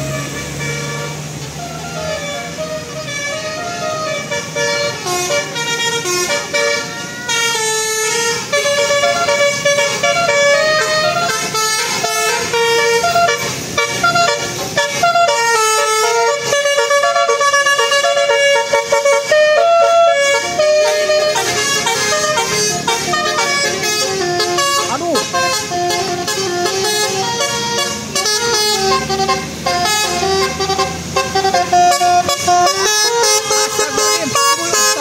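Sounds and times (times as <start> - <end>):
multi-tone air horns playing tune: 0.0 - 35.0.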